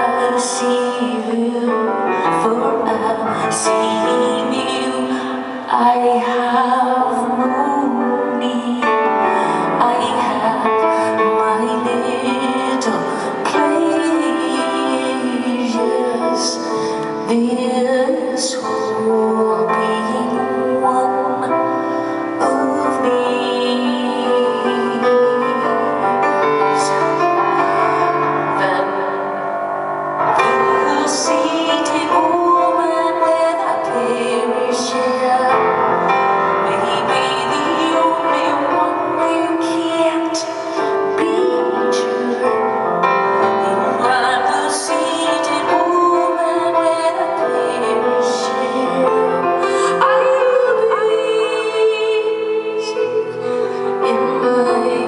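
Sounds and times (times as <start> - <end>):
piano and keyboard music: 0.0 - 55.0
woman singing: 0.0 - 55.0.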